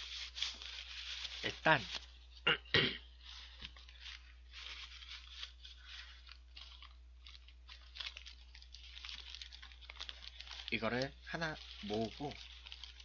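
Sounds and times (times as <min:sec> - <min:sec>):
paper wrappers crinkling: 0:00.0 - 0:02.4, 0:03.1 - 0:13.0.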